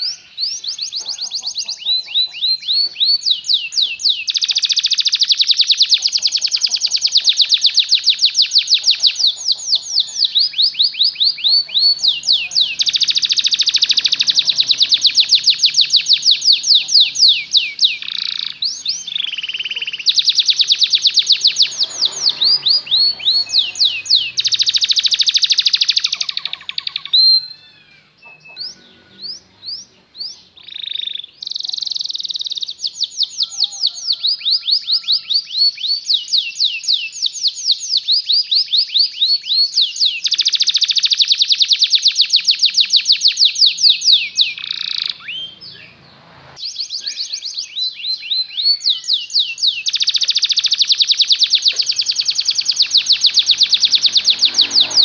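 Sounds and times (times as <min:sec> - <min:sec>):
canary trilling: 0:00.0 - 0:34.5, 0:40.2 - 0:55.0
canary chirps: 0:00.0 - 0:55.0.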